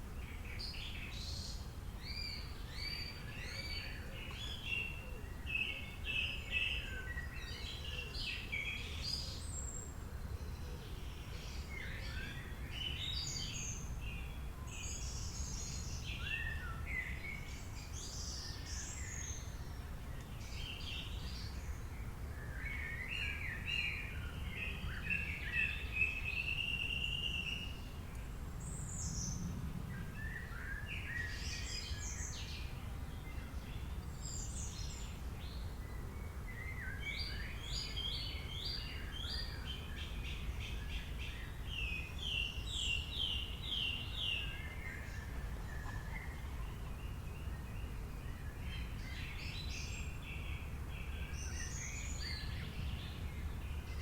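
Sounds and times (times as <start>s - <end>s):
wild birds singing and chirping: 0.0s - 54.0s.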